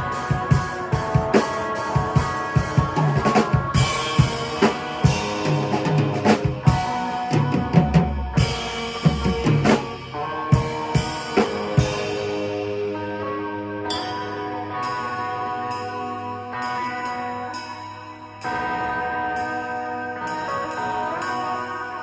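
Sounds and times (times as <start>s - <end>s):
drum kit beat: 0.0s - 22.0s
electric guitar rock riff: 0.0s - 22.0s.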